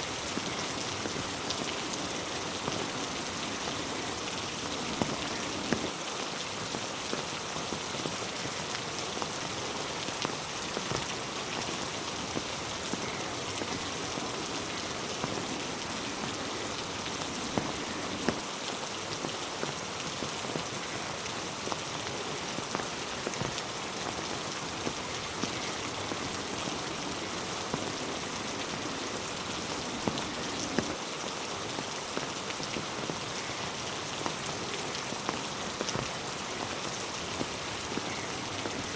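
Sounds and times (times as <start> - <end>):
rain hissing on road and trees: 0.0 - 38.9
ticks of nearby raindrops: 0.0 - 38.9.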